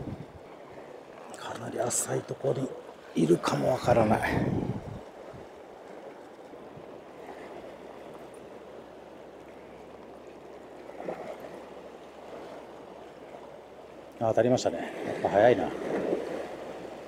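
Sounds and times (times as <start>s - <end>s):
sea waves against rocky shore: 0.0s - 17.0s.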